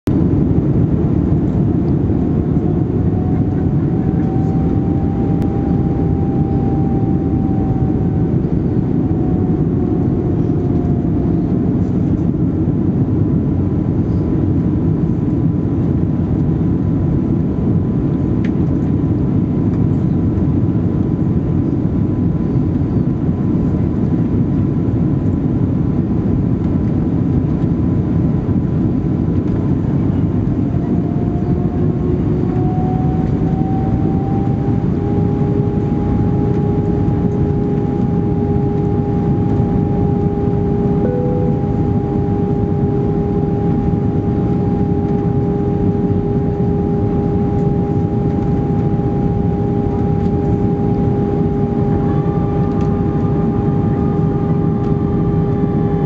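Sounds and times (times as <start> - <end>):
airplane cabin engine rush: 0.0 - 56.0
faint whine: 0.1 - 56.0.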